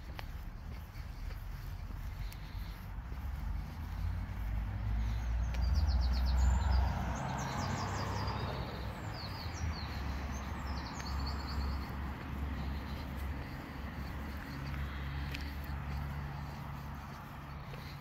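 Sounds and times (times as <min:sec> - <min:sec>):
songbirds trilling: 0:00.0 - 0:18.0.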